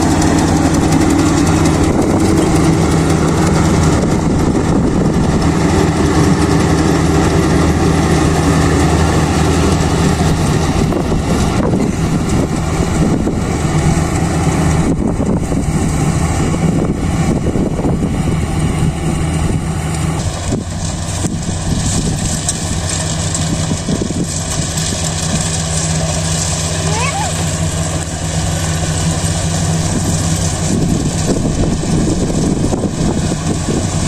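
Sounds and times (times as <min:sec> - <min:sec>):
diesel engine humming: 0:00.0 - 0:34.0
machinery rushing noise: 0:00.0 - 0:34.0.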